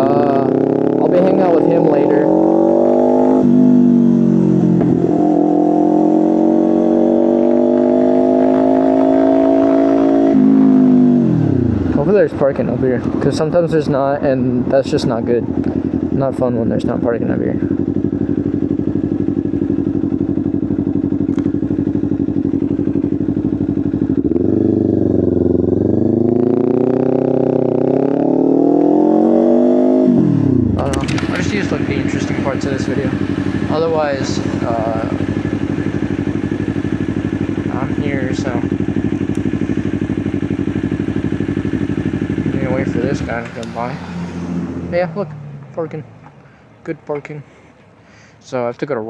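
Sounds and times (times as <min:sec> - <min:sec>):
motorcycle engine accelerating: 0:00.0 - 0:46.4.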